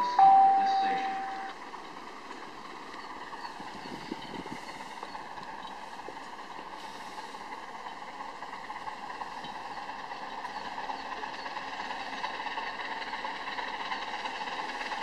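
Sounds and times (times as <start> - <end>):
steam train rushing: 0.0 - 15.0.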